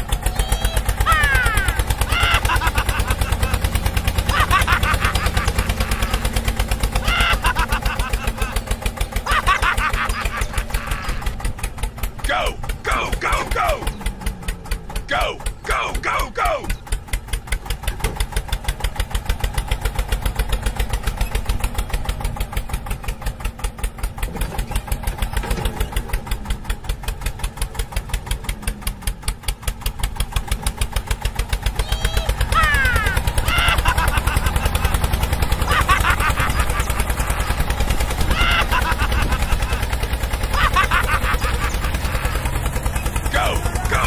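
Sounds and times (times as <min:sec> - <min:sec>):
small engine puttering: 0:00.0 - 0:44.0.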